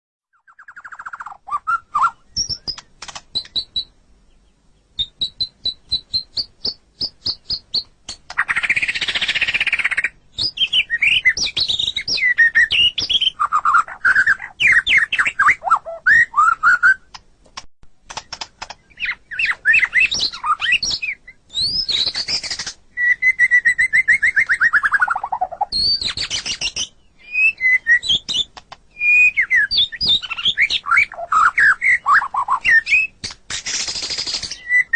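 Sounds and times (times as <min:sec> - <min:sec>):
bird singing varied song: 0:00.3 - 0:17.2, 0:18.1 - 0:34.9.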